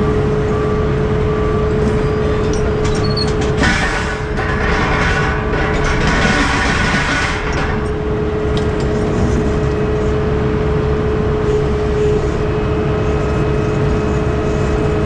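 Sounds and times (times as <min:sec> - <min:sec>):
diesel truck running: 0:00.0 - 0:15.0.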